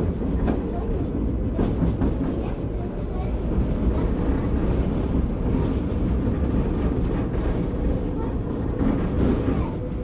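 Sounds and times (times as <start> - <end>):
tram rumbling on rails: 0.0 - 10.0.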